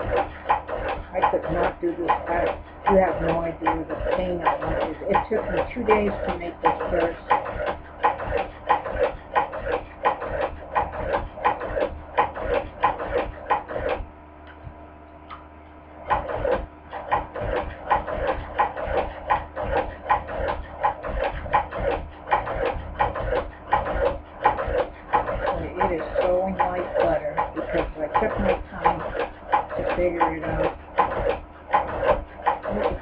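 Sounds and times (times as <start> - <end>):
sewing machine clicking: 0.0 - 14.0, 16.1 - 33.0.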